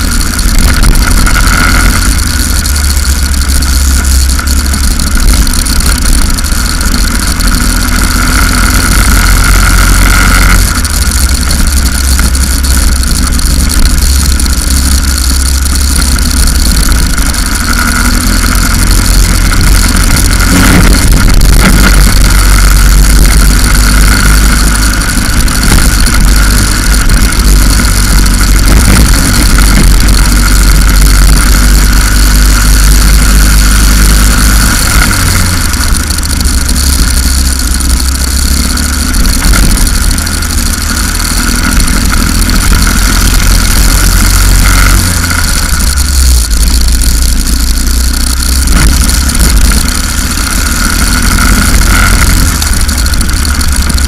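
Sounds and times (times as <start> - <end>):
racing kart engine: 0.0 - 54.0.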